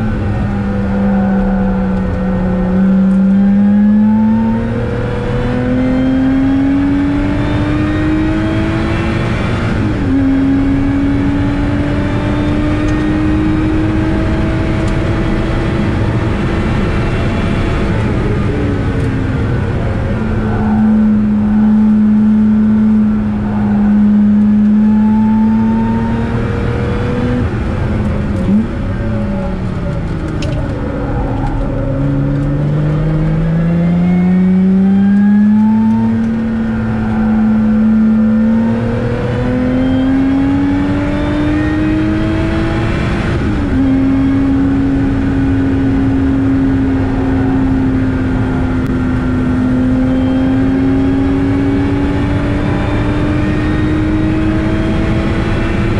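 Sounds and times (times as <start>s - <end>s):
car engine revving: 0.0s - 55.9s
wind noise: 0.0s - 55.9s.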